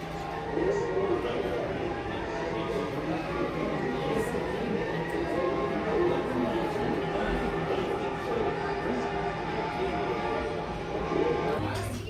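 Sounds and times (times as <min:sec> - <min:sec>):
background music: 0:00.0 - 0:12.0
people's voices: 0:00.0 - 0:12.0.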